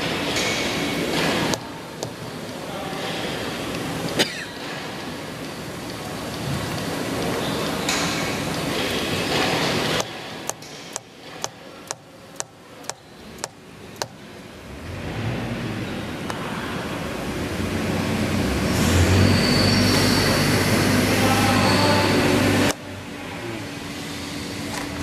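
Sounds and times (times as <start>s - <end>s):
mechanical noise with low hum: 0.0s - 25.0s.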